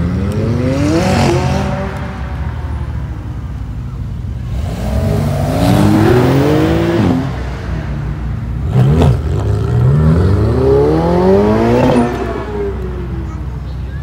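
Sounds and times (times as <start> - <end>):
car engines accelerating hard: 0.0 - 14.0.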